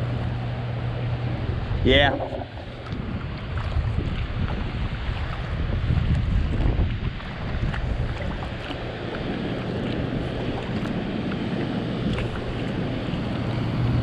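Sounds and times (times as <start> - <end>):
steady low hum: 0.0 - 14.0
water rippling around kayak: 0.0 - 14.0
gusty wind on microphone: 1.2 - 14.0.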